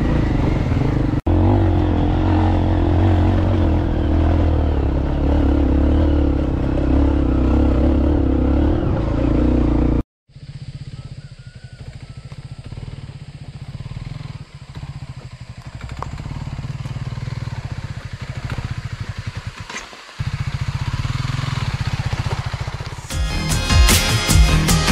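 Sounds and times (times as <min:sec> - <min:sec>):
dirt bike engine: 0:00.0 - 0:24.9.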